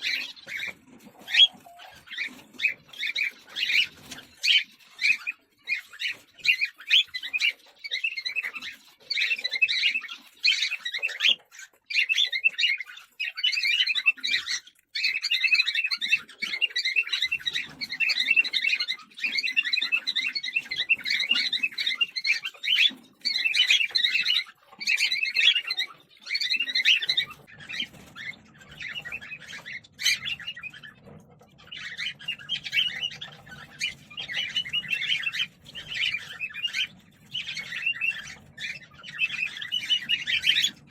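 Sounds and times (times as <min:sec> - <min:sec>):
cockatiels chirping: 0:00.0 - 0:40.9.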